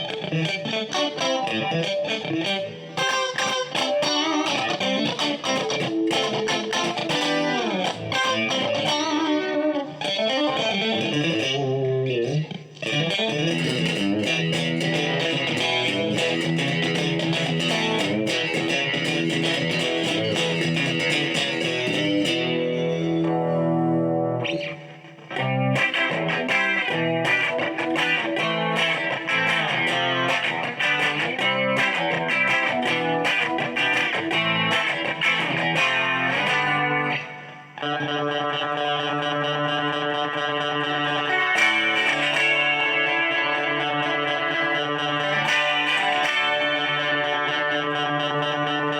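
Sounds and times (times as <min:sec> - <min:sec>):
clean electric guitar: 0:00.0 - 0:48.9.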